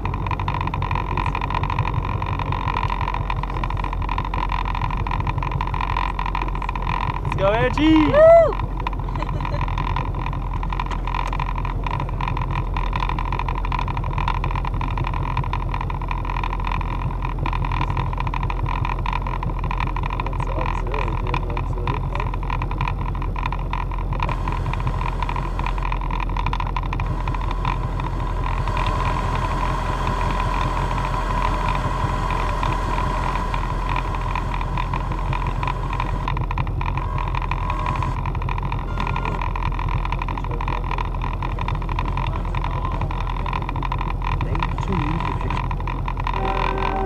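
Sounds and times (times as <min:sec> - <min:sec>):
motorboat engine running: 0:00.0 - 0:47.0.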